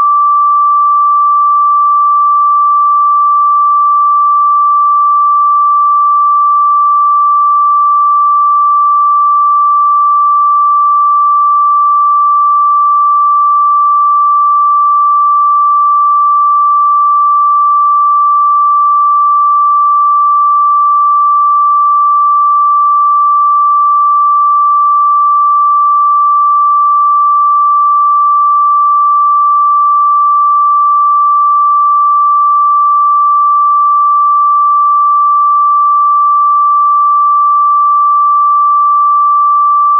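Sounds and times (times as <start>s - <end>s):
steady sine-wave tone: 0.0s - 39.9s.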